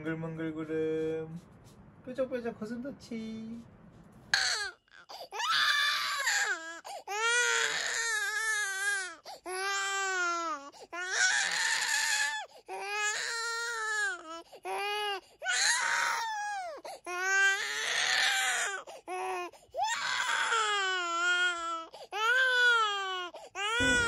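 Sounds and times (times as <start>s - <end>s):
baby crying: 4.4s - 24.0s.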